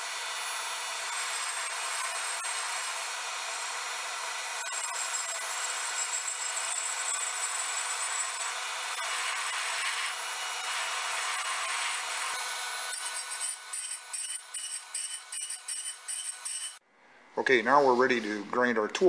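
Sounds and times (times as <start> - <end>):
grinder high whine: 0.0 - 16.8.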